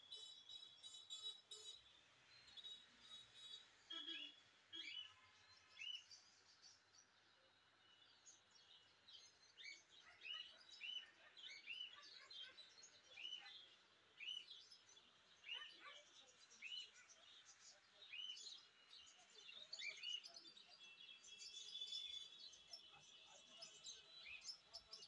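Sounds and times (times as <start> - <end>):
small birds chirping faintly: 0.0 - 25.0.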